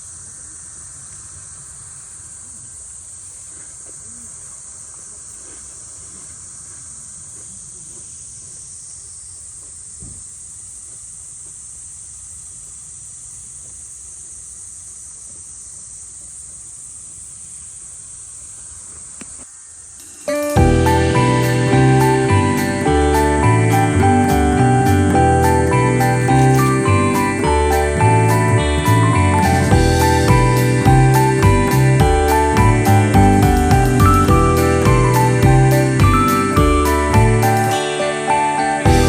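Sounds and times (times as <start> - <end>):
insects chirping drone: 0.0 - 39.0.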